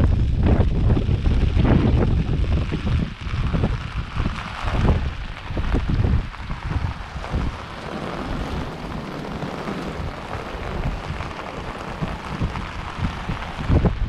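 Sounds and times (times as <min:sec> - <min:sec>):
heavy rain hissing: 0:00.0 - 0:14.0
wind gusts buffeting microphone: 0:00.0 - 0:14.0.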